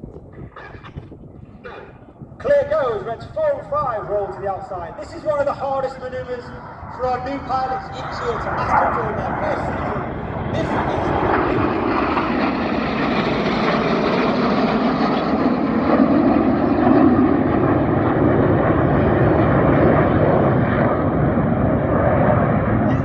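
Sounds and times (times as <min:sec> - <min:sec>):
jets flying past: 0:00.2 - 0:23.0.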